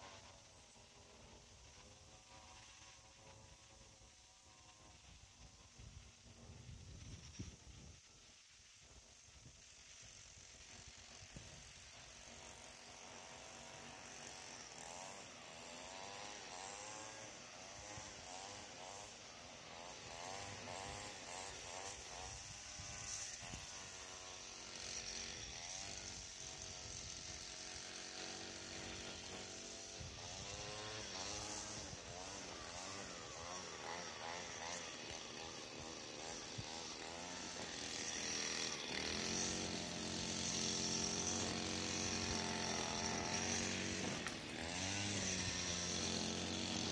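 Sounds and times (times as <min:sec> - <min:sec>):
distant string trimmer revving: 0:00.0 - 0:08.2, 0:09.2 - 0:46.9.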